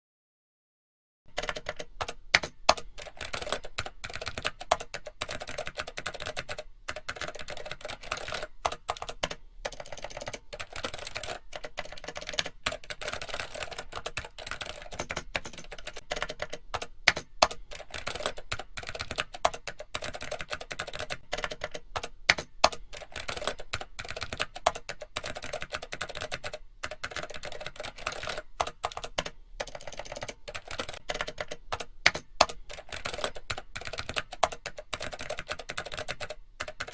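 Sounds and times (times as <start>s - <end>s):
computer keyboard typing: 1.3s - 36.9s.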